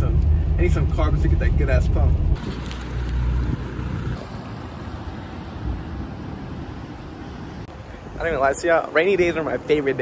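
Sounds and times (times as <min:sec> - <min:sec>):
car road noise rumble: 0:00.0 - 0:10.0
outdoor background noise: 0:00.0 - 0:10.0.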